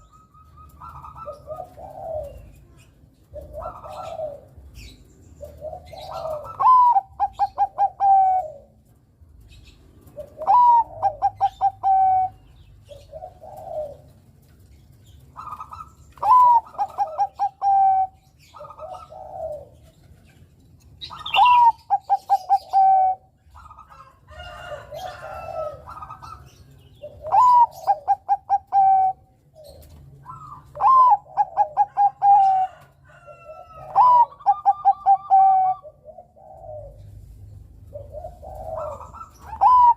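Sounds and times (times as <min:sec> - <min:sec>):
dove singing clicks and coos: 0:00.0 - 0:39.9.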